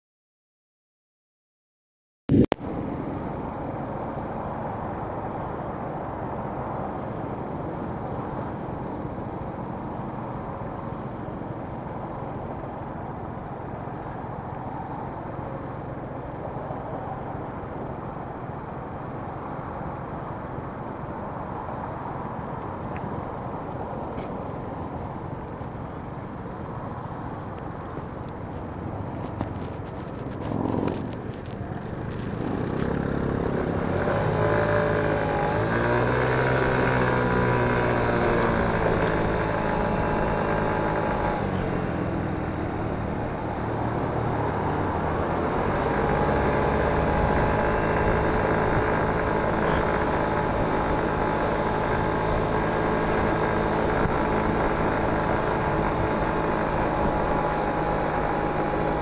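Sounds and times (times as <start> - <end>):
motor scooter engine idling: 2.3 - 59.0.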